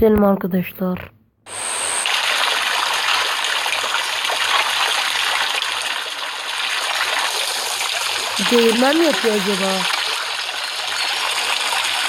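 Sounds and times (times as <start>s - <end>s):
stream water running: 1.5s - 12.0s.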